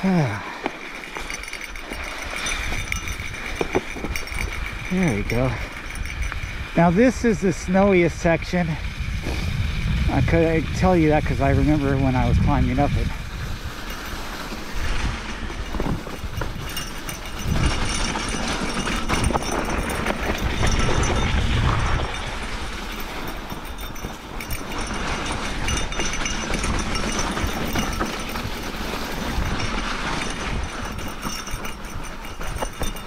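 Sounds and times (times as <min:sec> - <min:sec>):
bike rattling over bumps: 0:00.0 - 0:33.0
bike tyres rolling through snow: 0:00.0 - 0:33.0.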